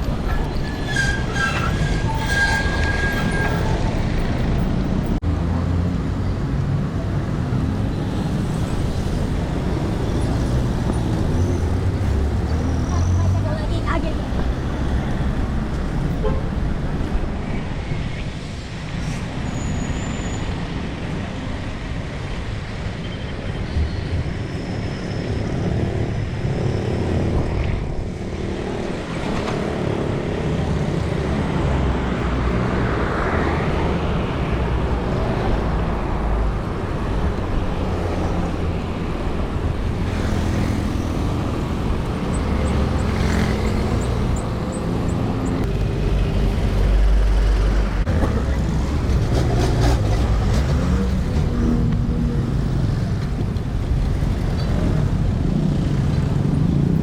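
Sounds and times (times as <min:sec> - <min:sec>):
cars and trucks passing: 0:00.0 - 0:57.0.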